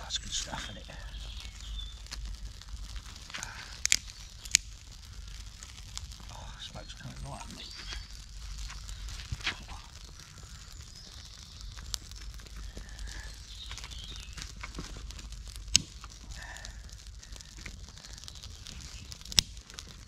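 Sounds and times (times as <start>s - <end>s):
campfire crackling: 0.0s - 20.0s
fire popping and snapping: 0.0s - 20.0s.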